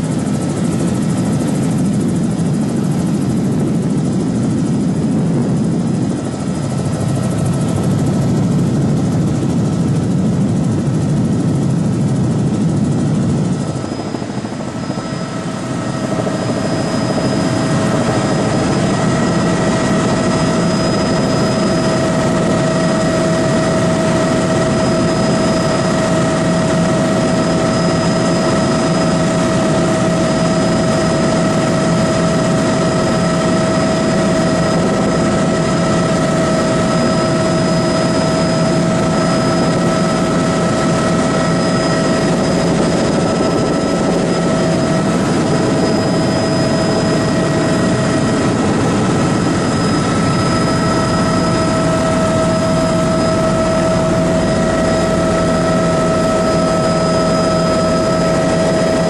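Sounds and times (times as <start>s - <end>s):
small aircraft engine drone in cabin: 0.0s - 59.0s.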